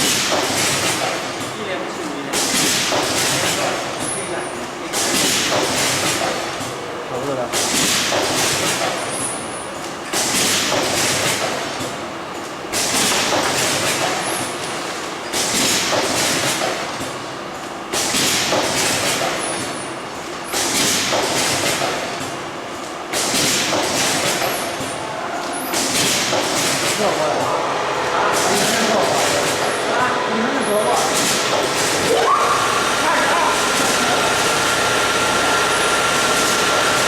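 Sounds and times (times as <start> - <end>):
packaging machine hissing thumps: 0.0 - 12.1, 12.7 - 25.0, 25.6 - 27.6, 28.2 - 30.1, 30.7 - 37.0.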